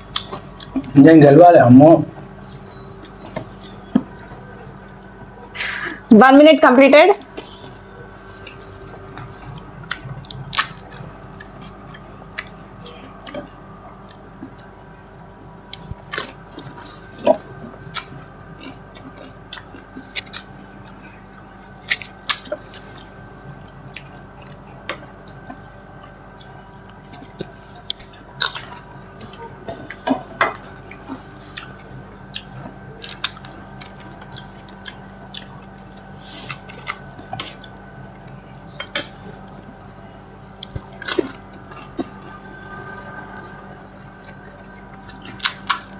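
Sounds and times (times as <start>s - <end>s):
chewing: 0.0s - 1.0s, 7.2s - 39.9s, 40.5s - 43.4s, 44.2s - 45.9s
faint steady hum: 0.0s - 45.9s.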